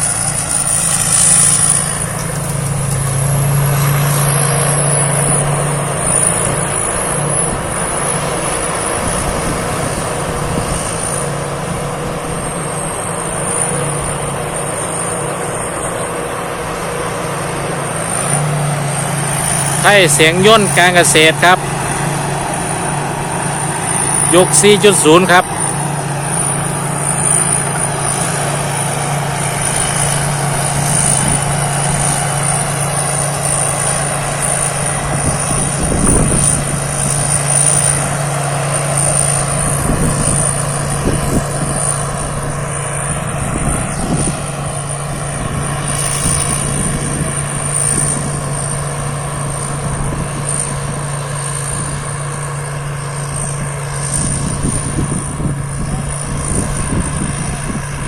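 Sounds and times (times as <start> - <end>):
engine hum: 0.0 - 58.0
high-pitched machinery whine: 0.0 - 58.0.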